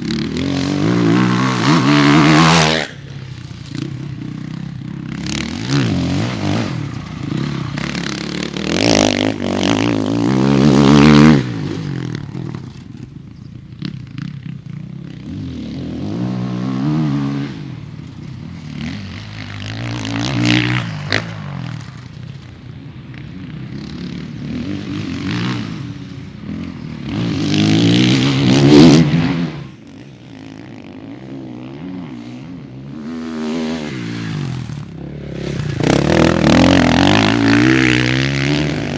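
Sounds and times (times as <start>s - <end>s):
motocross bikes revving: 0.0s - 38.9s.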